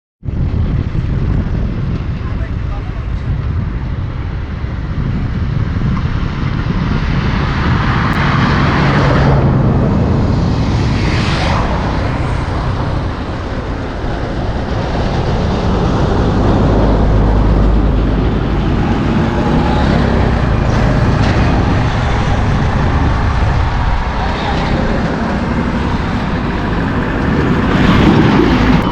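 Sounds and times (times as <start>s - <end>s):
road traffic rumble: 0.2s - 28.9s.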